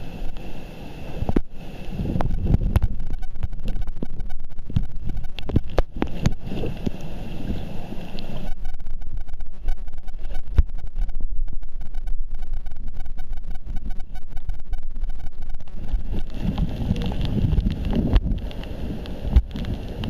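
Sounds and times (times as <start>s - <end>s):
water sloshing and splashing: 0.0s - 14.0s, 15.6s - 20.0s
low wind rumble: 0.0s - 20.0s.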